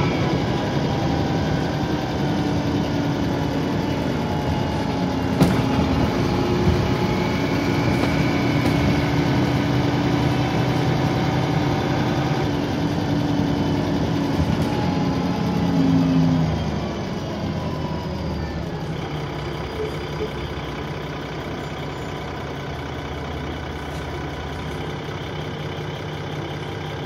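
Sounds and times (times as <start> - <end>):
bus diesel engine running: 0.0 - 27.0
high turbo whine: 0.0 - 27.0.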